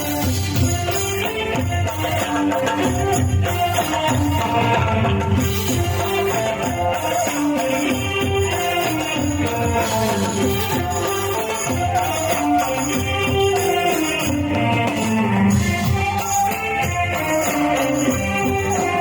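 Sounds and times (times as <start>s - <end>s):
band playing instrumental music: 0.0s - 19.0s.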